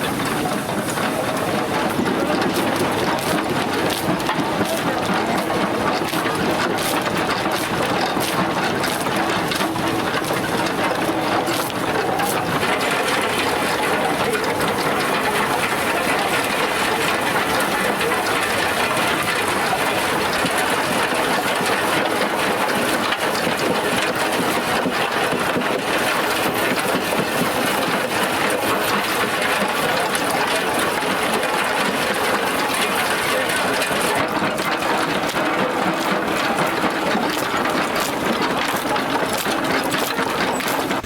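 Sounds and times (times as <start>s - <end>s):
farm machinery clattering: 0.0s - 41.0s.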